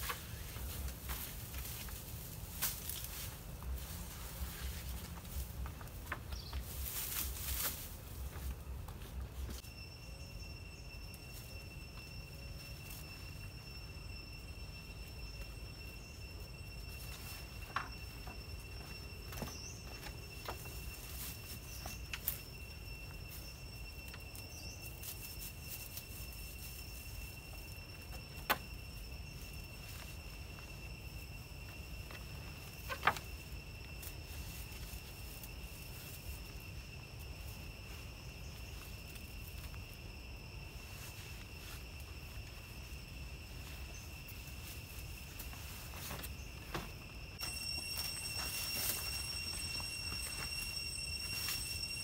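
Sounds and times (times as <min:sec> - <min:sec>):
high insect trill: 0:00.0 - 0:52.0.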